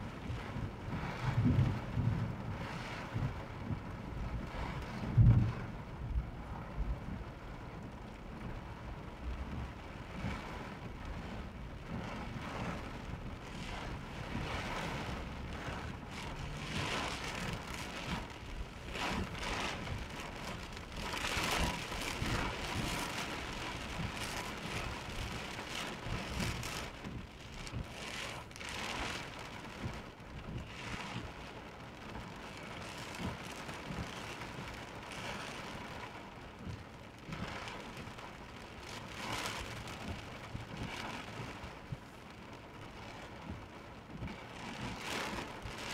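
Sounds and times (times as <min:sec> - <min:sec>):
heavy rain on car: 0:00.0 - 0:45.9.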